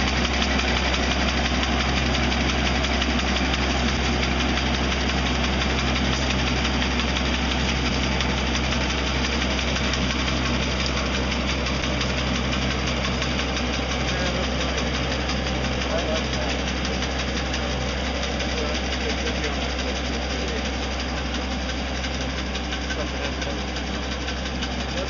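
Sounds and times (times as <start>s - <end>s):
brush cutter high whine: 0.0s - 25.0s
tractor engine running: 0.0s - 25.0s.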